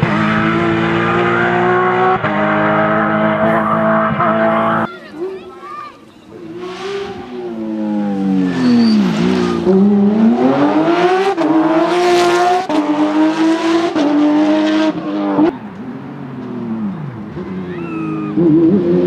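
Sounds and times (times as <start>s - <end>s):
rally car engine revving and upshifting: 0.0s - 4.9s, 6.3s - 19.0s.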